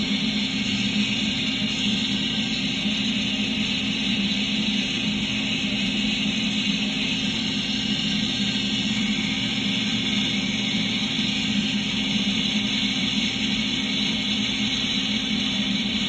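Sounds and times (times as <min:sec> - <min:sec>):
rotary polishing tool whirring: 0:00.0 - 0:16.0.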